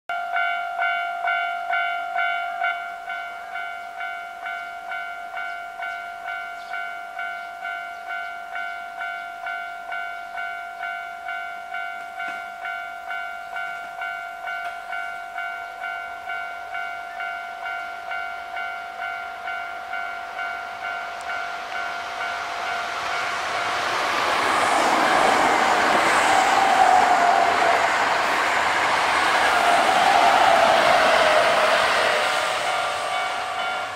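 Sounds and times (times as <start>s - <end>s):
electric train passing: 0.3s - 33.9s.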